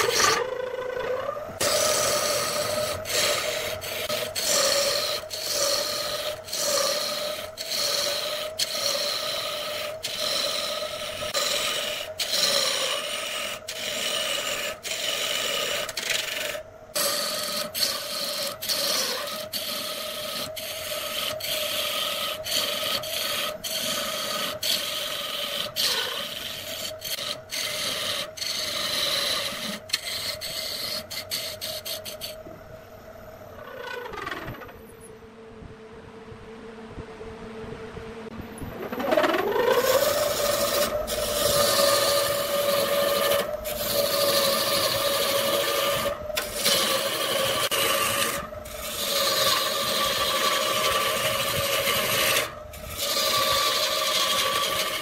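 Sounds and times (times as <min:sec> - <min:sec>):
tool scraping wood on lathe: 0:00.0 - 0:32.5, 0:38.9 - 0:55.0
lathe motor hum: 0:00.0 - 0:32.6, 0:36.1 - 0:55.0.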